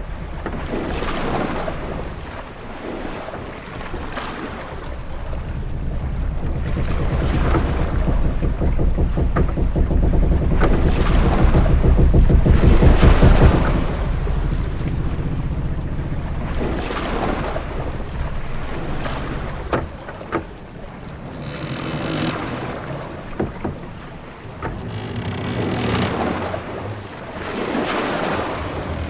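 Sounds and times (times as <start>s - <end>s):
waves and wind around hull: 0.0s - 29.0s
short sharp knocks: 3.8s - 27.2s.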